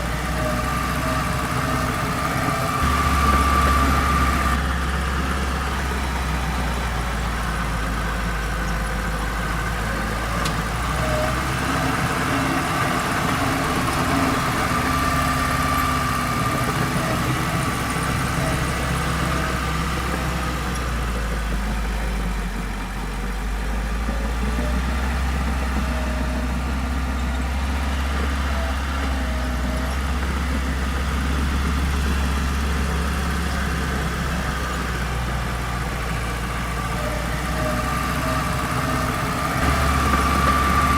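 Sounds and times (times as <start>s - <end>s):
heavy machinery diesel engine running: 0.0s - 40.9s.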